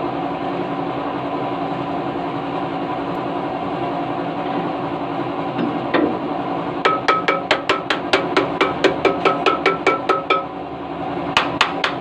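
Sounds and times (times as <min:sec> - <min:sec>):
machine droning hum: 0:00.0 - 0:12.0.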